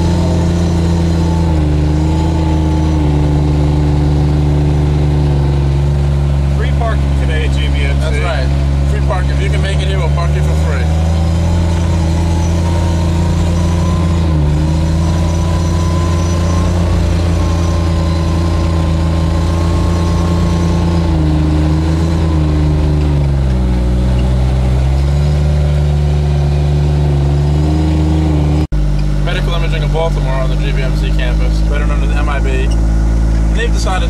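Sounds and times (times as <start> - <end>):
utility vehicle engine running: 0.0 - 34.0.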